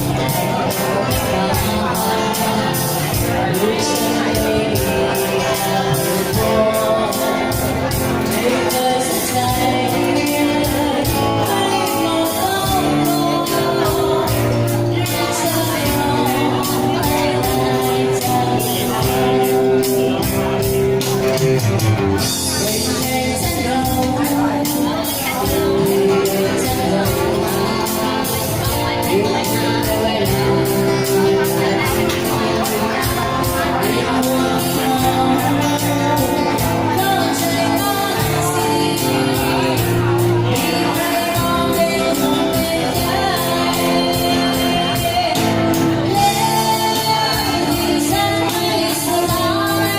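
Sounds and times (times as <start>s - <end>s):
person singing: 0.0s - 49.9s
pop-rock music: 0.0s - 49.9s.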